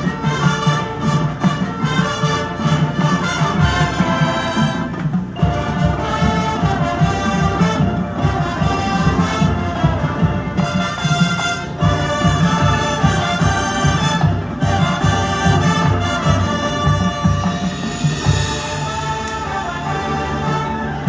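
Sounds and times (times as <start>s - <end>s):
brass chords: 0.0s - 21.0s
heavy low drums: 0.0s - 21.0s
marching band playing: 0.0s - 21.0s.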